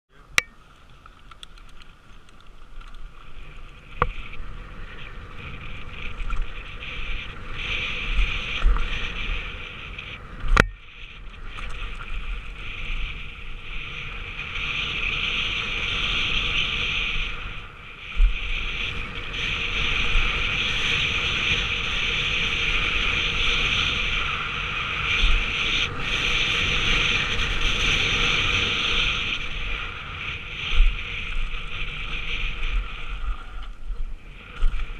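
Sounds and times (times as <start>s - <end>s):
bike tyres on dirt trail: 0.1s - 34.9s
wind rushing over microphone: 1.8s - 34.9s.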